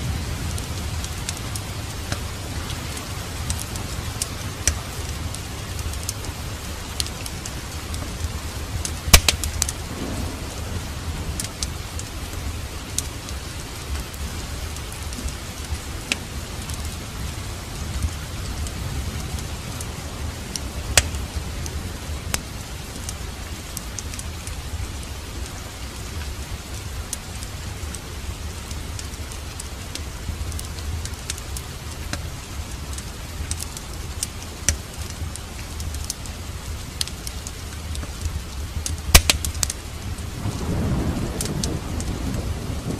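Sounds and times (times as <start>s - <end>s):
steady rain: 0.0s - 42.9s
wood fire crackling: 0.0s - 42.9s.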